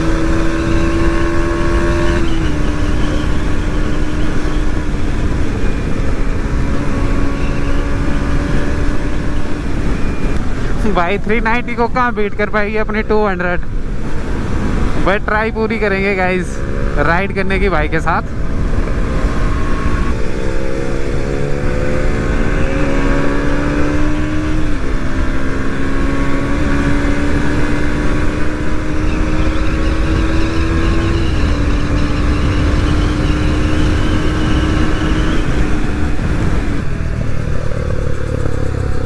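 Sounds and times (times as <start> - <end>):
motorcycle engine revving through gears: 0.0 - 10.8, 16.2 - 39.0.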